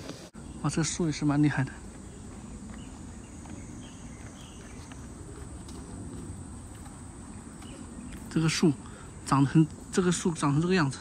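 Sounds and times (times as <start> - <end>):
faint insect drone: 0.4 - 11.0.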